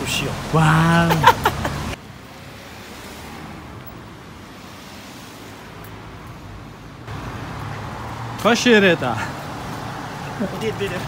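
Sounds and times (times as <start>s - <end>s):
distant road traffic: 0.0s - 11.0s.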